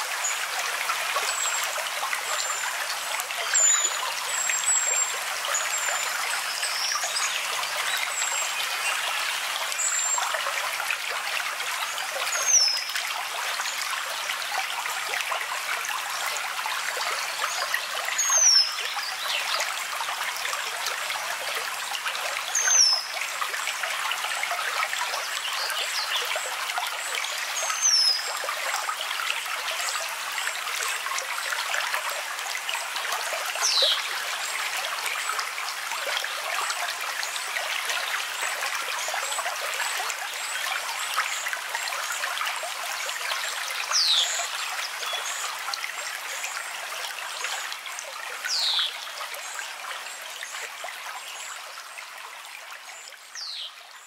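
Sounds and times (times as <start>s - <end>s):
stream running: 0.0s - 54.0s.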